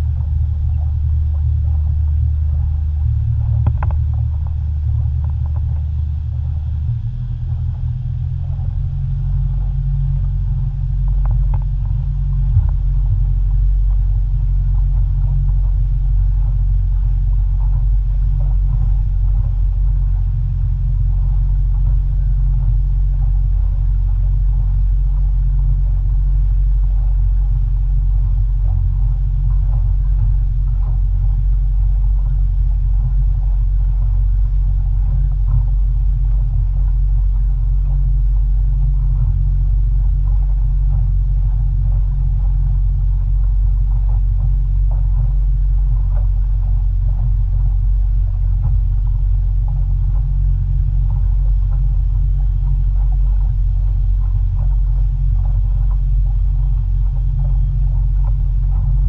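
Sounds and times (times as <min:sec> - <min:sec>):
boat engine rumbling: 0:00.0 - 0:59.0.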